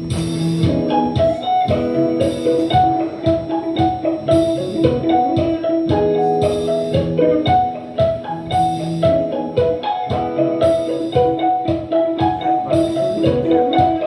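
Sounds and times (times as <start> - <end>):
electric guitar playing jazz chords: 0.0 - 14.0
percussive pulse: 0.0 - 14.0.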